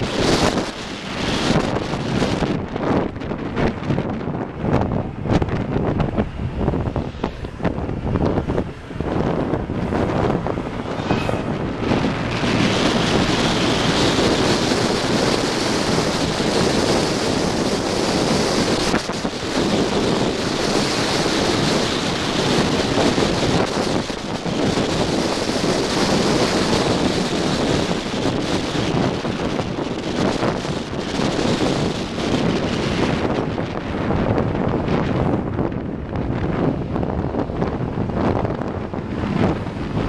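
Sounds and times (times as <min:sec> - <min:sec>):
vehicle road noise: 0:00.0 - 0:40.0
wind on microphone: 0:00.0 - 0:40.0.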